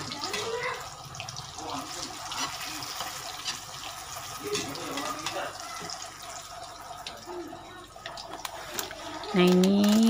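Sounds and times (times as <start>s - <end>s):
deep-frying sizzle with pops: 0.0s - 10.0s.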